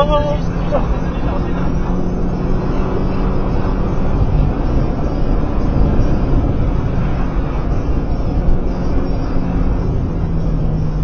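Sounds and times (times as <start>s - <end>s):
car engine pulling hard: 0.0s - 11.0s
low engine hum: 0.0s - 11.0s
road and tyre noise: 0.0s - 11.0s.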